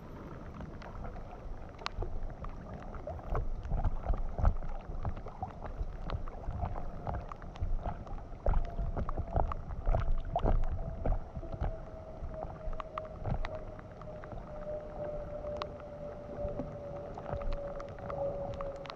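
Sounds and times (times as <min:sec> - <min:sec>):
low rumble: 0:00.0 - 0:18.9
thin steady whine: 0:00.0 - 0:18.9
water sloshing and gurgling: 0:00.0 - 0:18.9
water drops ticking on camera: 0:00.5 - 0:18.9.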